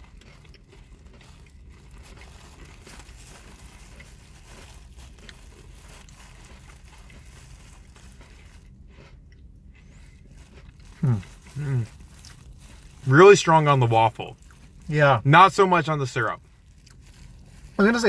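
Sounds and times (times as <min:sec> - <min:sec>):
crunching and chewing cookies: 0:00.0 - 0:18.0.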